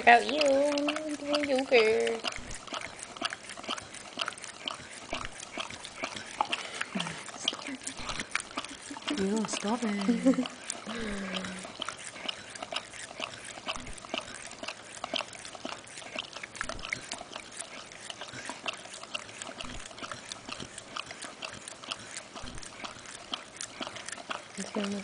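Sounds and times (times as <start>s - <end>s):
dog lapping and smacking: 0.0s - 25.0s.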